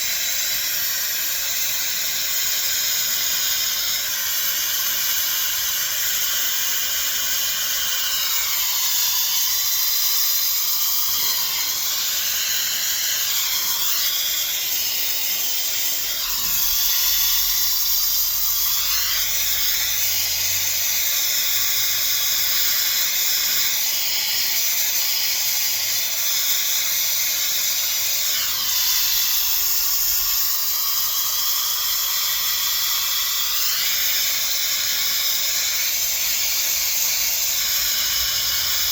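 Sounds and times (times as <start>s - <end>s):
hairdryer blowing: 0.0s - 38.9s.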